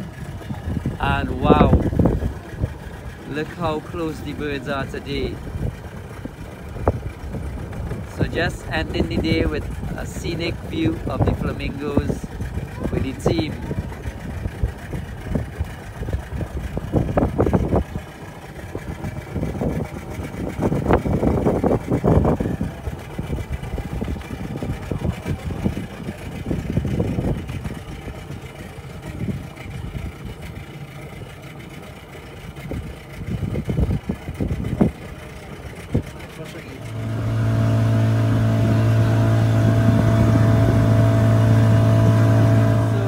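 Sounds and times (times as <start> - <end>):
low steady rumble: 0.0 - 43.0
wind buffeting microphone: 0.0 - 43.0.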